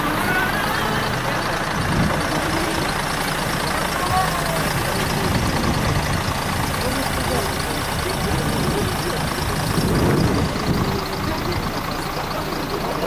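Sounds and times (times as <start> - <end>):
car engines running: 0.0 - 13.0
faint people talking: 0.0 - 13.0.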